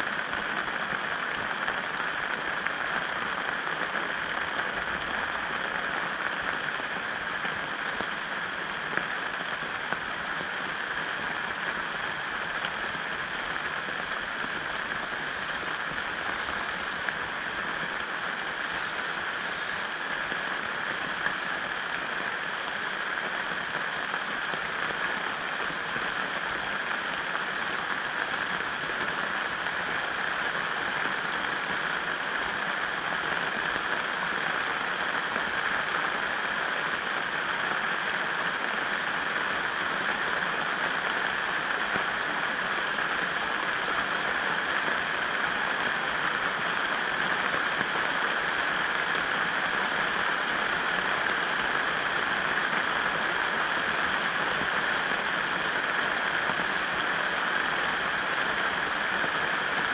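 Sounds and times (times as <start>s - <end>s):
rain falling: 0.0s - 59.9s
river running: 0.1s - 59.9s.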